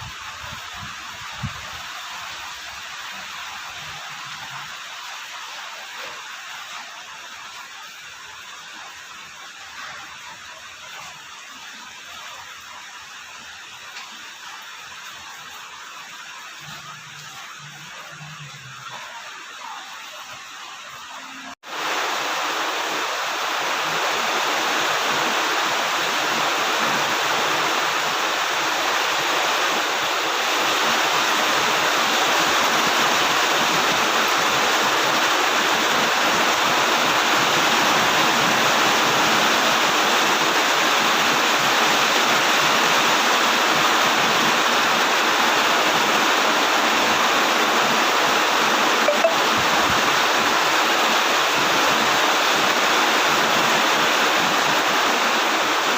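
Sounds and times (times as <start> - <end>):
heavy rain hissing: 0.0 - 55.9.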